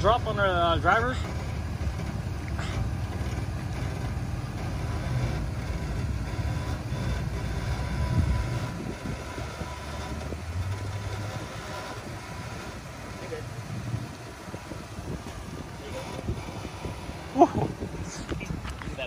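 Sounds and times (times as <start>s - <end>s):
engine running at low revs: 0.0s - 19.0s.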